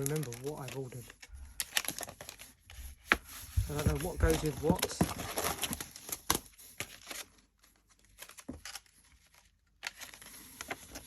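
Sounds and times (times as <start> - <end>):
packaging crinkling and tearing: 0.0 - 2.6, 3.8 - 11.0.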